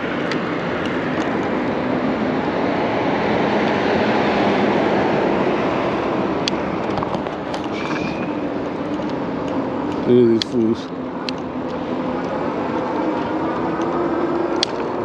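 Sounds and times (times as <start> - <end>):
passing vehicles: 0.0 - 15.0
wind and tyre noise: 0.0 - 15.0.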